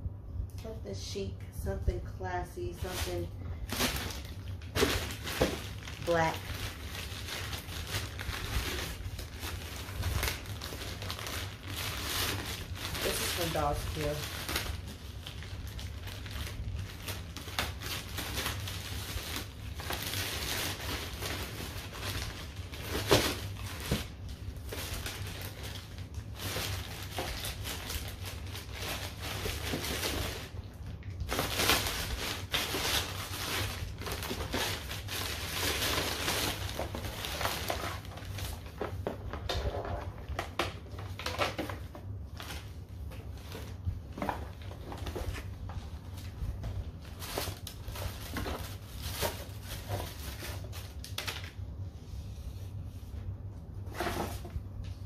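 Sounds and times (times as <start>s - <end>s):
plastic bag crinkling: 2.6s - 51.7s
sharp plastic crackle: 2.6s - 51.7s.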